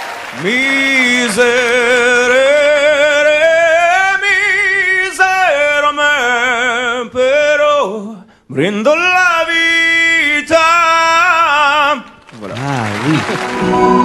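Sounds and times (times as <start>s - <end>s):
man singing with vibrato: 0.3s - 12.2s.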